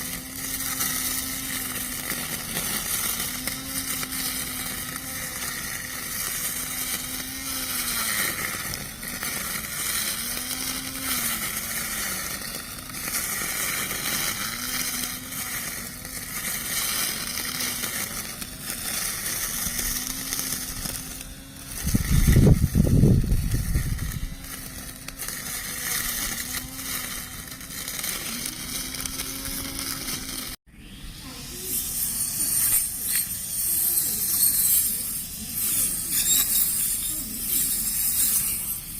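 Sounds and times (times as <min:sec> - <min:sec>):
lawn mower cutting: 0:00.0 - 0:38.9.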